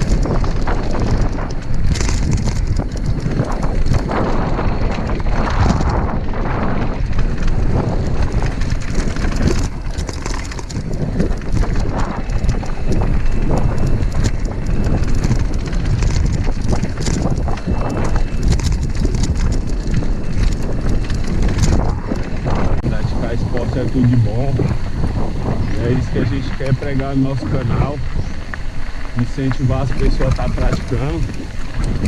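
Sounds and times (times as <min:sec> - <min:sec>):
bike rattling over bumps: 0:00.0 - 0:32.0
tyres rumbling on dirt: 0:00.0 - 0:32.0
wind on microphone: 0:00.0 - 0:32.0.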